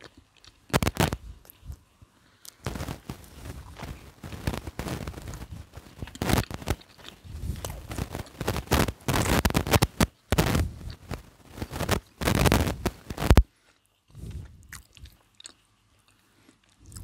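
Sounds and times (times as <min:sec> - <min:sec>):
crust crackling: 0:00.0 - 0:15.6
chewing crispy fried chicken: 0:00.0 - 0:17.0.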